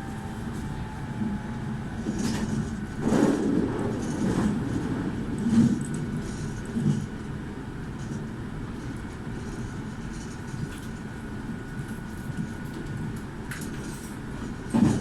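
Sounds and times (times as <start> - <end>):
train rattles: 0.0 - 15.0
train wheels rumbling on rail: 0.0 - 15.0.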